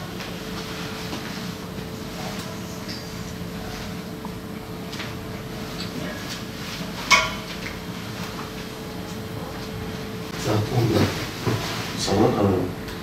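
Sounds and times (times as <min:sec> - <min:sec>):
room noise hum: 0:00.0 - 0:13.0.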